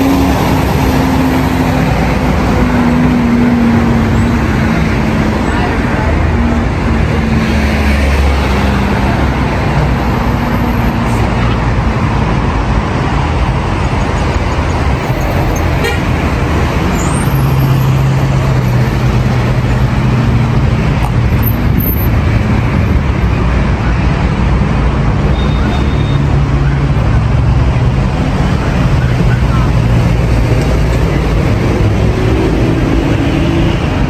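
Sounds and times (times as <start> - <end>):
cars driving past: 0.0 - 34.0.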